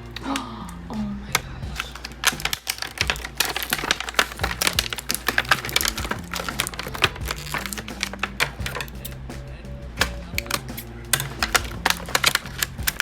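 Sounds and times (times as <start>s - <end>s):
hands handling plastic packaging: 1.3s - 9.3s, 10.0s - 13.0s.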